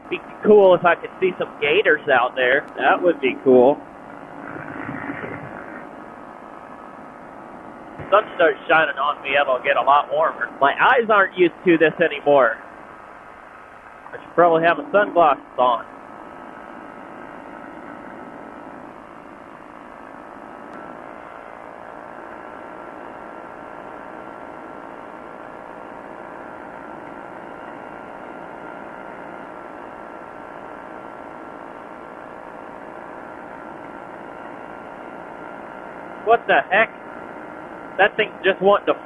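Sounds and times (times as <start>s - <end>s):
airplane engine and propeller drone: 0.0s - 29.8s, 35.5s - 39.0s.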